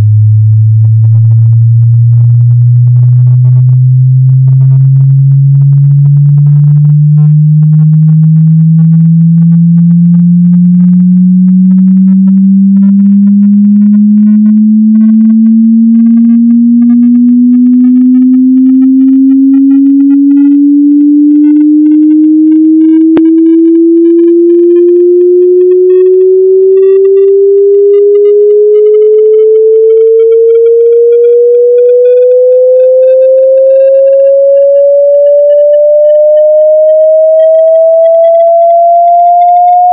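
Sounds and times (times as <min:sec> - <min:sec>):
sine tone sweeping up: 0:00.0 - 0:39.9.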